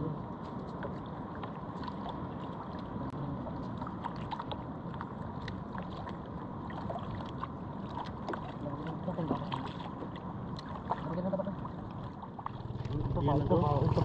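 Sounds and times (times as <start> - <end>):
water lapping against boat hull: 0.0 - 14.0
light splashes: 0.3 - 14.0.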